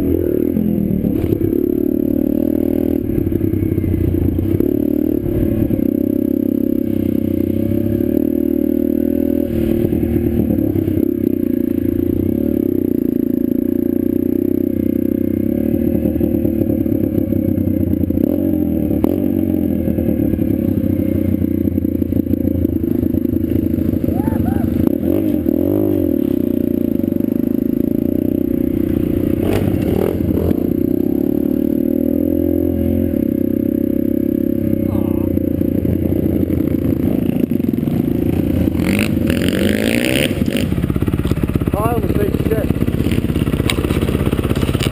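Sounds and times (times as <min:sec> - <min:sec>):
pit bike engine running: 0:00.0 - 0:44.9.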